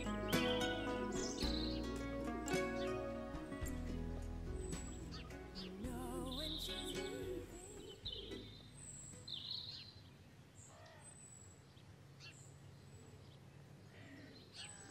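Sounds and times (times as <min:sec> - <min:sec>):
faint birds chirping and whistling: 0:00.0 - 0:14.9.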